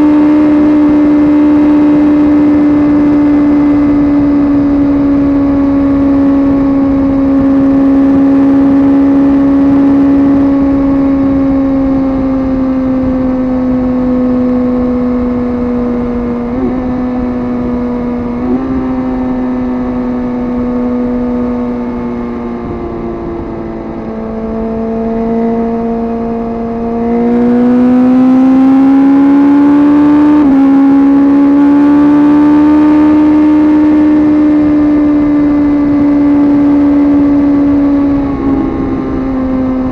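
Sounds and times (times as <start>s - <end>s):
gear change: 0.0s - 39.9s
motorcycle engine revving: 0.0s - 39.9s.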